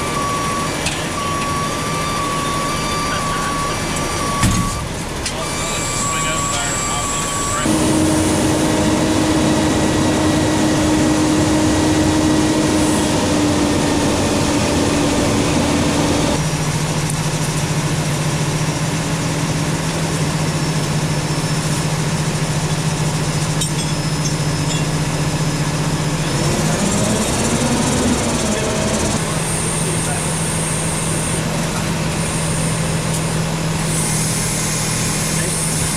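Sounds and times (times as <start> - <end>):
engine drone: 0.0 - 35.9.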